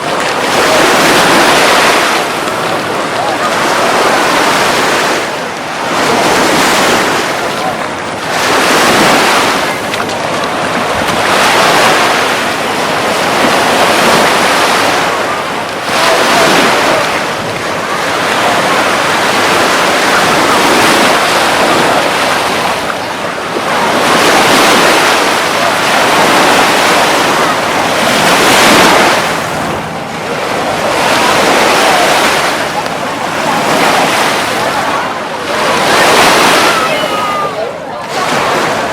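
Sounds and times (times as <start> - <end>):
surf breaking on beach: 0.0 - 38.9.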